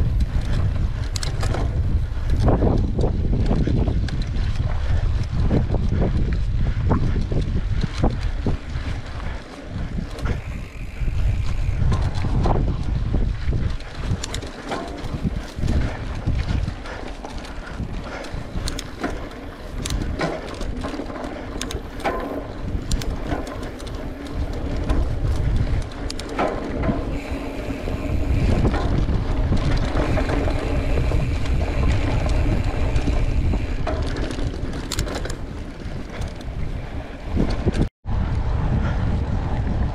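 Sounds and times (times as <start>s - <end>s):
bike clicking and rattling: 0.0s - 39.9s
wind buffeting microphone: 0.0s - 39.9s.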